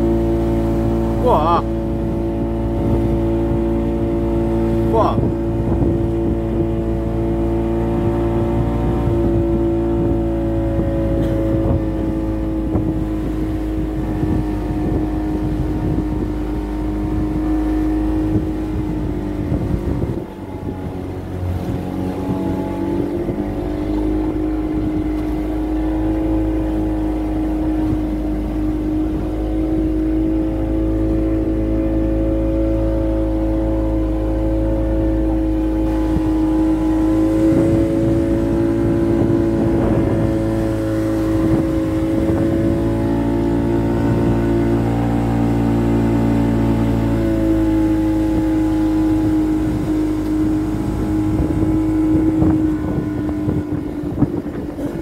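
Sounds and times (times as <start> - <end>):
boat engine running: 0.0 - 55.0
rumbling water: 0.0 - 55.0
wind noise: 0.0 - 55.0.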